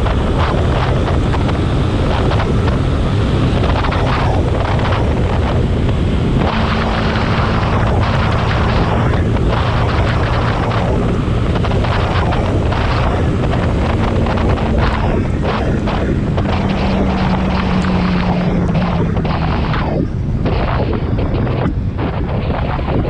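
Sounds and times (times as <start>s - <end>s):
motorcycle engine running loud: 0.0s - 23.0s.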